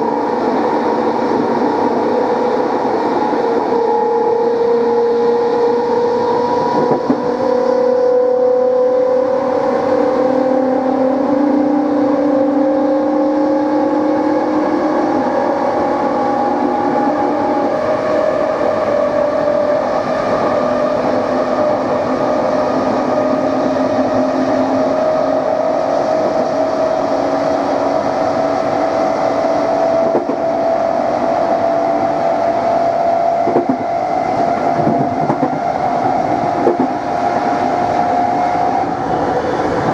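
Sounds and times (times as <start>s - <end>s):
train running rumble: 0.0s - 39.9s
train traction motors whining: 0.0s - 39.9s.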